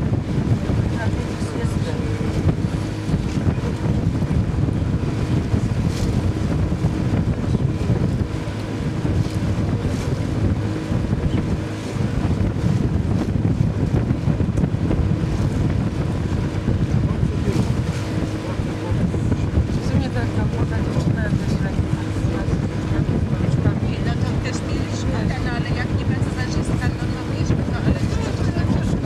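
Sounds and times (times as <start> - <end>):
boat motor running: 0.0 - 29.0
wind buffeting microphone: 0.0 - 29.0.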